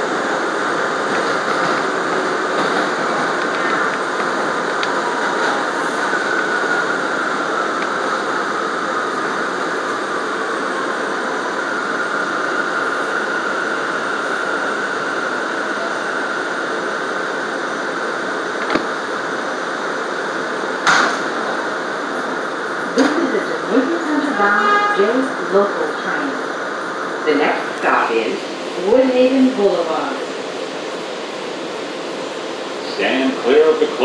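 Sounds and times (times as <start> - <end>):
train wheels rumbling on rail: 0.0 - 34.0
faint high whine: 3.5 - 34.0.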